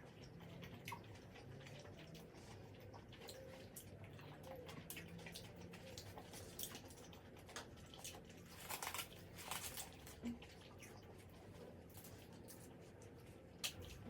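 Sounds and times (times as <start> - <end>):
person chewing food: 0.9 - 14.0.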